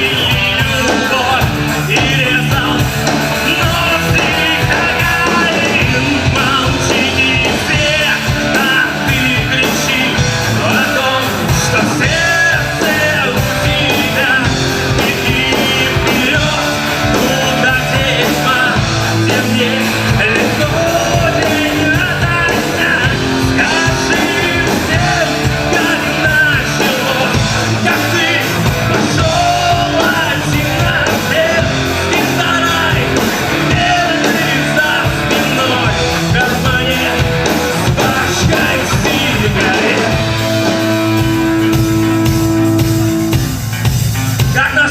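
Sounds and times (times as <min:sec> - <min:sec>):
person singing: 0:00.0 - 0:43.2
live rock band playing: 0:00.0 - 0:44.9.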